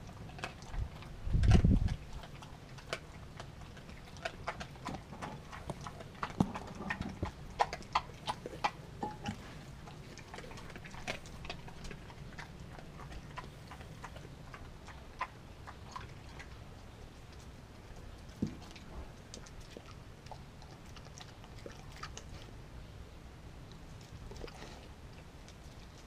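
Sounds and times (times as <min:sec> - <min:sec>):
dog chewing raw chicken: 0:00.0 - 0:22.7, 0:23.7 - 0:26.0.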